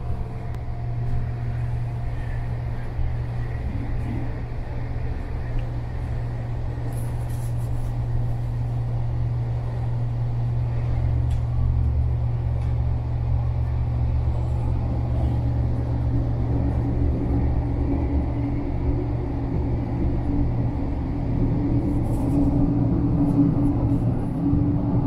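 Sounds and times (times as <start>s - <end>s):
moving train rumble and hum: 0.0s - 25.0s.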